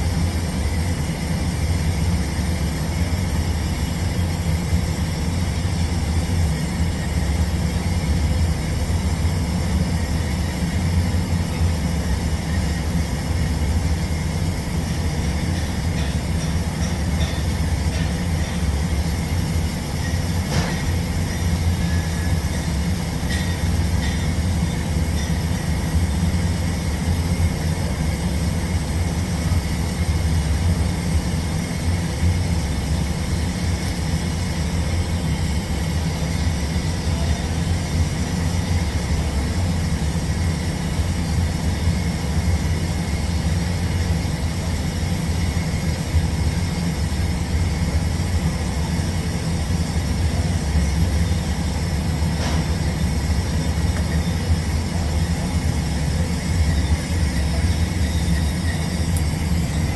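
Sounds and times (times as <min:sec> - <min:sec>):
low mechanical drone: 0:00.0 - 0:59.9.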